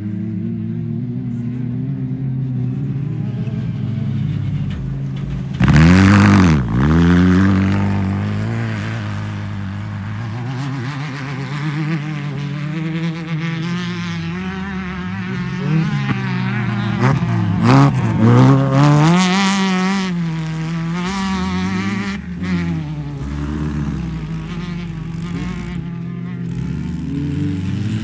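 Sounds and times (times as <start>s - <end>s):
race car engines running: 0.0s - 28.0s
car passing by close: 3.3s - 28.0s.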